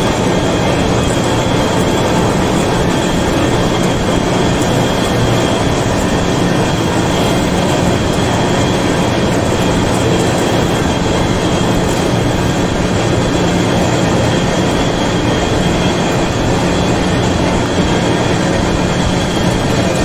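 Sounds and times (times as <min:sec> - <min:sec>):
high steady whine: 0:00.0 - 0:20.0
lathe machine drone: 0:00.0 - 0:20.0.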